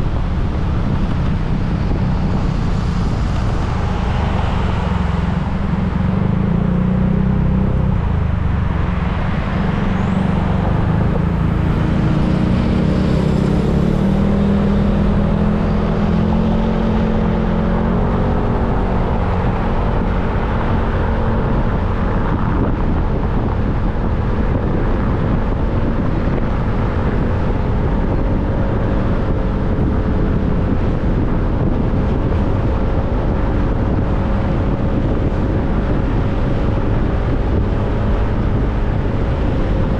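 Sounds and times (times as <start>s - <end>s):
road noise rushing: 0.0s - 39.9s.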